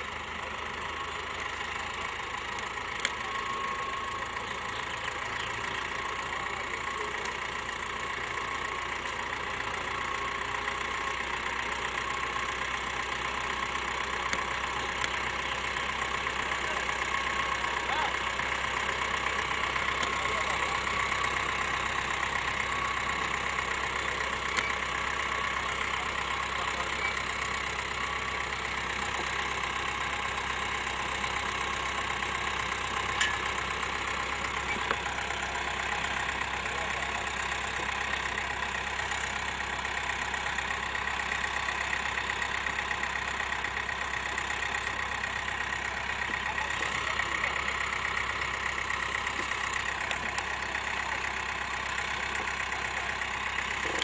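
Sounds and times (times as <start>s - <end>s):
engine running with whine: 0.0s - 54.0s.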